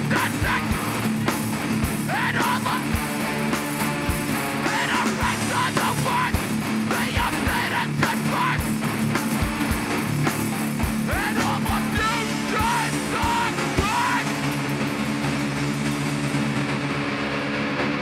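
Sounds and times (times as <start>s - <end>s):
bass guitar: 0.0s - 18.0s
distorted guitars: 0.0s - 18.0s
drums hit hard: 0.0s - 18.0s.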